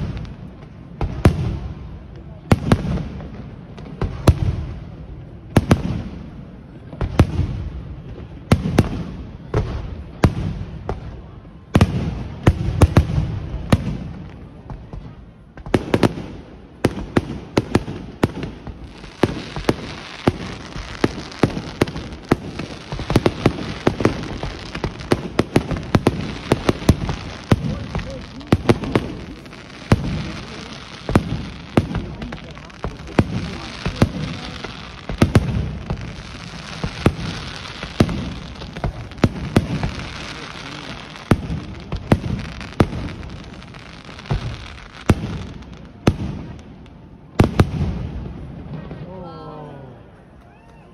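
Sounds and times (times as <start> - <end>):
fireworks bangs: 0.0 - 50.8.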